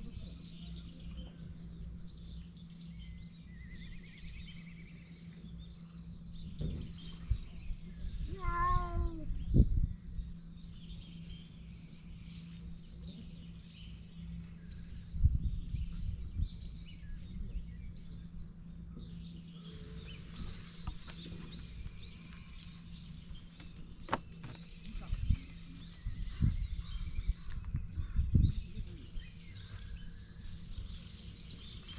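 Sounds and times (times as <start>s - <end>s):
small birds chirping: 0.0s - 31.9s
steady low hum: 0.0s - 31.9s.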